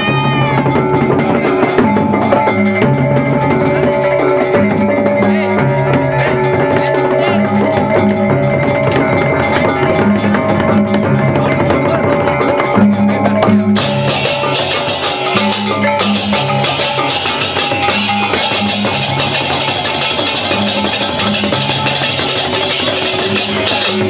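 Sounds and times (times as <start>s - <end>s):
pitched metal percussion: 0.0s - 24.0s.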